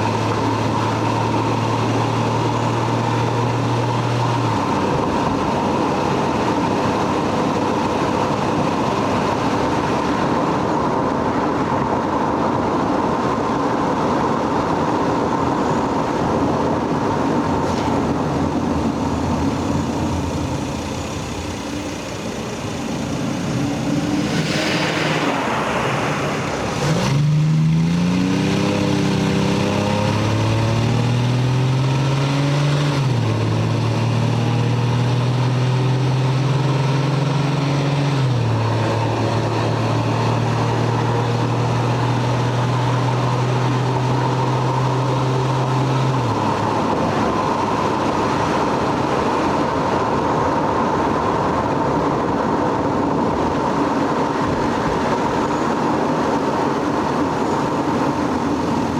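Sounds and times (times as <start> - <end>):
car engine accelerating: 0.0 - 11.2, 13.2 - 58.9
road and tyre noise: 0.0 - 58.9.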